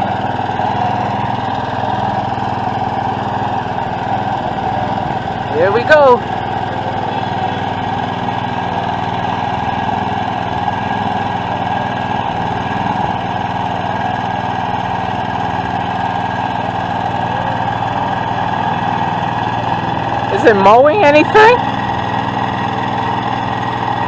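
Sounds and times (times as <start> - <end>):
mower engine running: 0.0 - 24.0.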